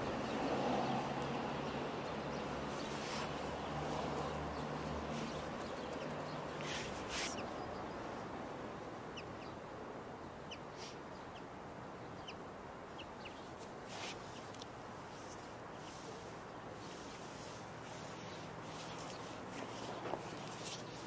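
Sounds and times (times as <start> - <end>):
small birds chirping: 0.0 - 21.0
street traffic hiss: 0.0 - 21.0.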